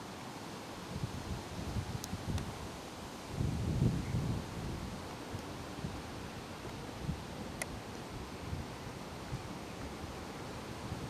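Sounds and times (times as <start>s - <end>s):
wind on microphone: 0.8s - 11.0s.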